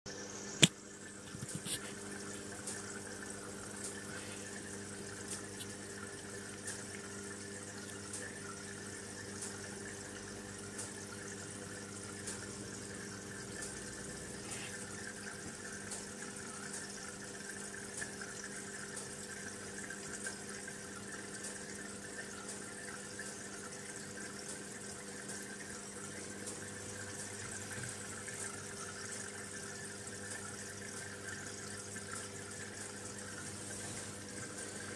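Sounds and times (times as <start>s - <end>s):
filter motor hum: 0.1s - 34.9s
trickle of moving water: 0.2s - 34.9s.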